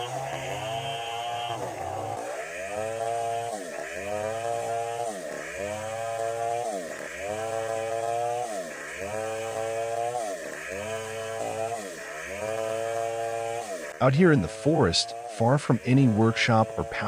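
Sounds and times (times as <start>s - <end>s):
chainsaw revving under load: 0.0s - 17.0s.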